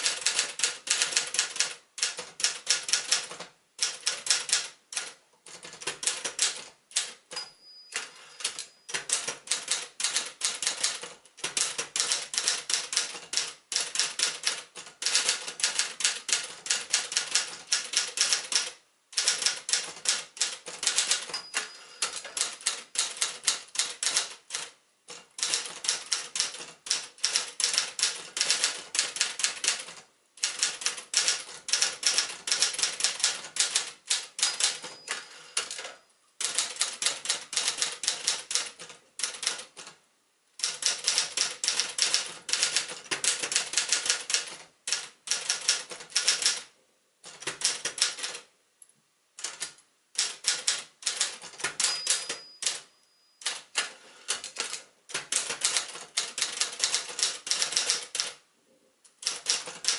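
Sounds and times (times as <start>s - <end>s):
typewriter keys clicking: 0.0s - 7.3s, 8.0s - 40.0s, 40.6s - 46.7s, 47.3s - 48.5s, 49.4s - 58.4s, 59.1s - 59.9s.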